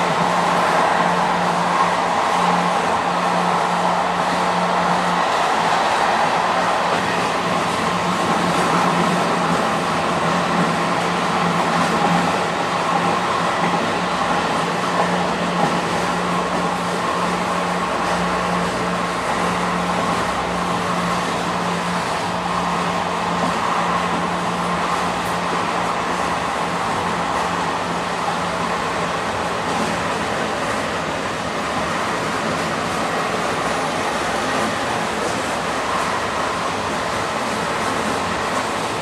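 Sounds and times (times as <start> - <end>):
passenger train rolling: 0.0 - 39.0.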